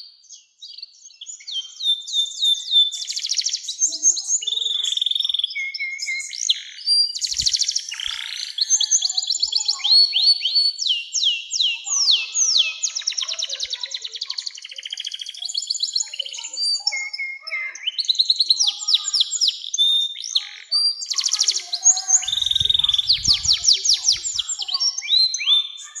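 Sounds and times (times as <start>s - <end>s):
canary singing: 0.7s - 26.0s.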